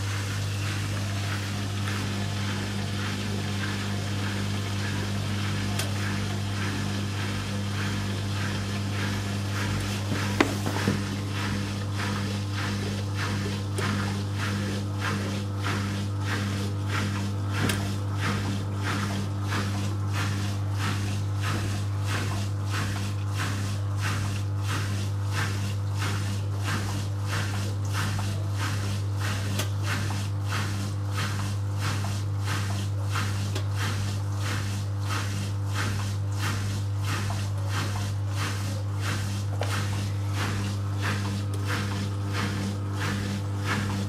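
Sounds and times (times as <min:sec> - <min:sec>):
washing machine motor hum: 0:00.0 - 0:44.0.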